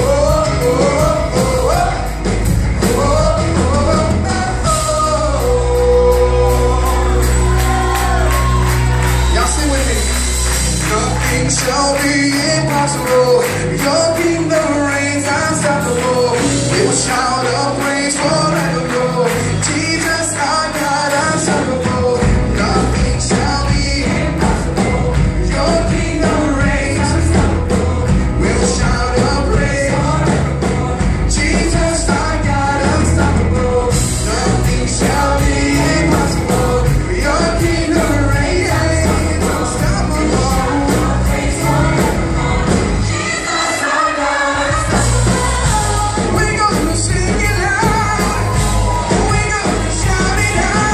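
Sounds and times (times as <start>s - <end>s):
steady drum beat: 0.0s - 50.9s
worship band and singers: 0.0s - 50.9s.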